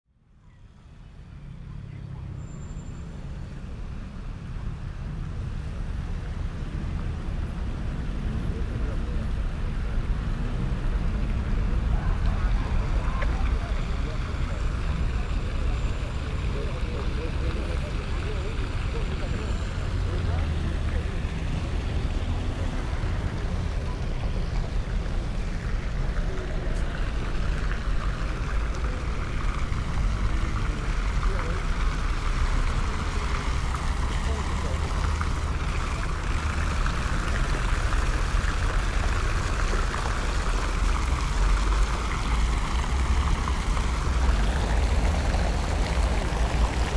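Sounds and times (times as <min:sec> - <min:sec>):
low rumble of road traffic: 0:00.1 - 0:46.9.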